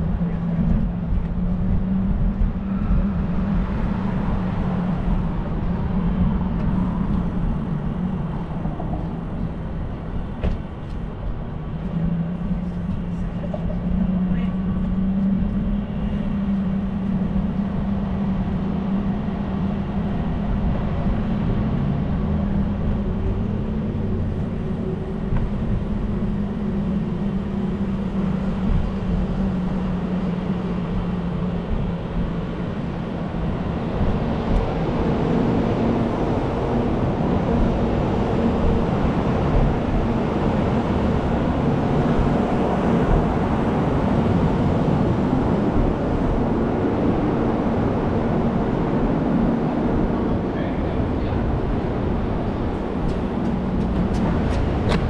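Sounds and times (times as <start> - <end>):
rumbling of riding on sidewalk: 0.0 - 55.0.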